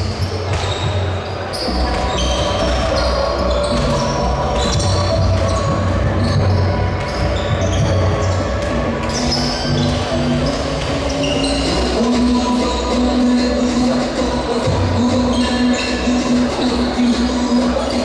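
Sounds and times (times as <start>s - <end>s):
background music with low bass: 0.0s - 18.0s.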